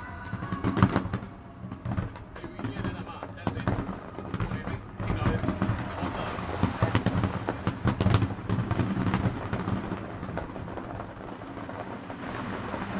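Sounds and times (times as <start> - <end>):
fireworks cracking and banging: 0.0 - 12.9.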